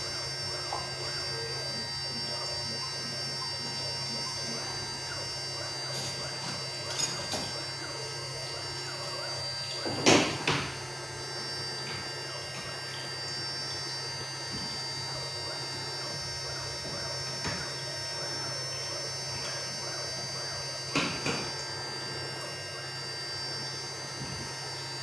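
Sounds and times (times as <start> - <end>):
router spindle humming and whining: 0.0 - 25.0.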